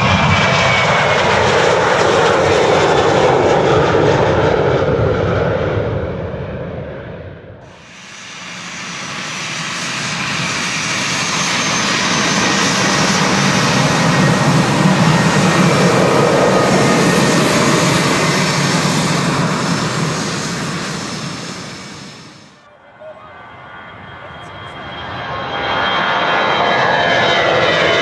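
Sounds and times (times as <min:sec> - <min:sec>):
jet engines passing by: 0:00.0 - 0:28.0.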